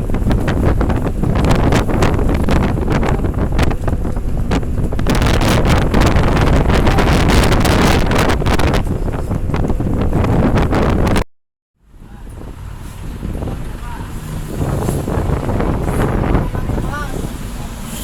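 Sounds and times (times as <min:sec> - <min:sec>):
bus road and engine noise: 0:00.0 - 0:11.2, 0:11.8 - 0:18.0
wind buffeting microphone: 0:00.0 - 0:11.2, 0:11.9 - 0:18.0.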